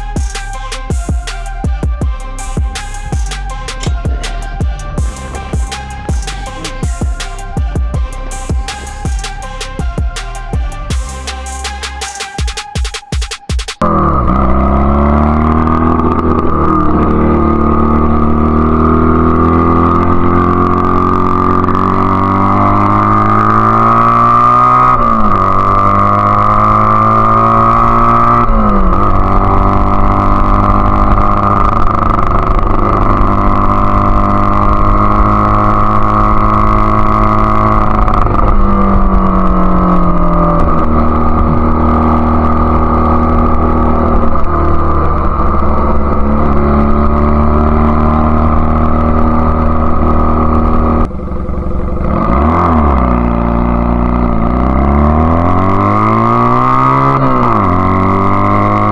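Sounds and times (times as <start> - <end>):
engine spluttering: 0.0 - 12.5, 13.8 - 58.9
motorcycle engine running: 0.0 - 58.9.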